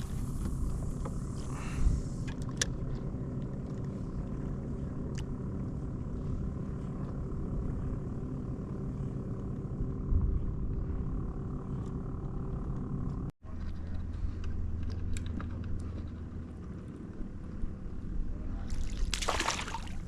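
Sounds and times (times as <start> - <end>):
motor running at low pitch: 0.0 - 20.0.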